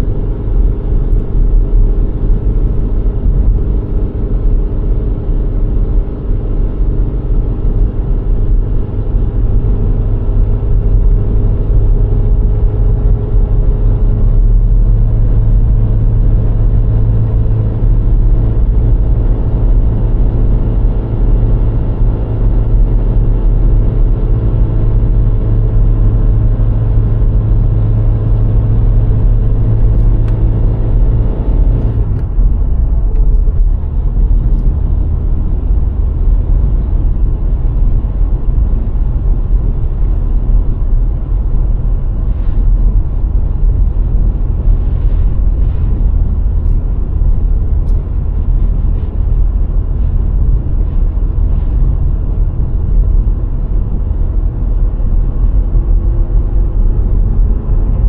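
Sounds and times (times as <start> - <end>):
car engine running: 0.0 - 58.0
tyre and road rumble: 0.0 - 58.0.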